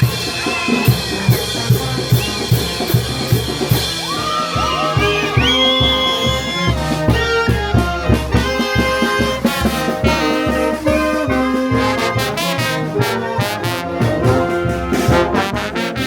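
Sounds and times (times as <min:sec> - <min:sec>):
steady low drumbeat: 0:00.0 - 0:15.8
trumpets and trombones: 0:00.0 - 0:16.0.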